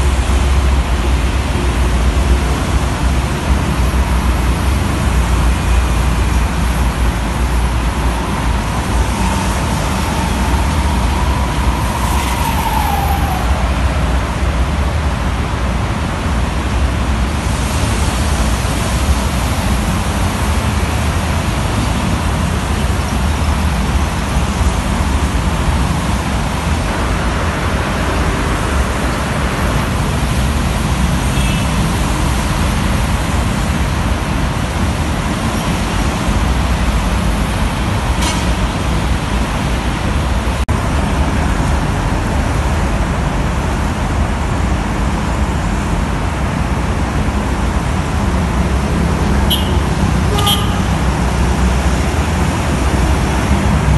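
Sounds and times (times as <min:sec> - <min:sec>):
dense road traffic: 0:00.0 - 0:53.9
tyres hissing on wet road: 0:00.0 - 0:53.9.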